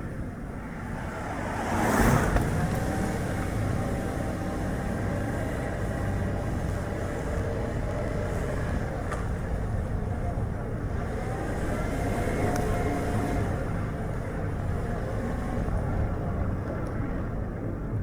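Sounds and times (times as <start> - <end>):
car road and tyre noise: 0.0 - 18.0.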